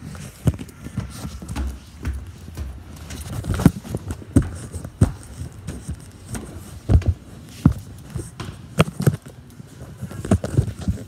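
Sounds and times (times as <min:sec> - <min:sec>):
footsteps walking: 0:00.0 - 0:11.0.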